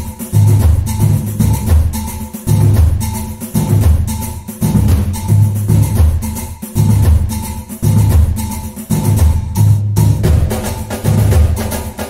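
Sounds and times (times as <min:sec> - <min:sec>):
music with heavy bass and percussion: 0:00.0 - 0:12.0.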